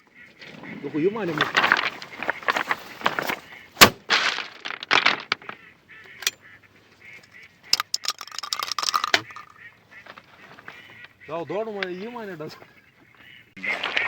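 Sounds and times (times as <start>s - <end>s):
ducks quacking: 0.0s - 3.8s, 4.7s - 14.0s.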